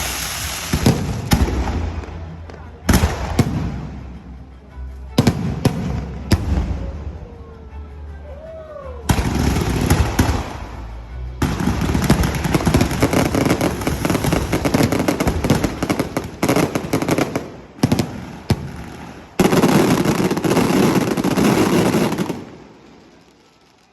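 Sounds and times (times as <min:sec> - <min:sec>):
fireworks bangs and crackles: 0:00.0 - 0:07.3, 0:09.1 - 0:23.9.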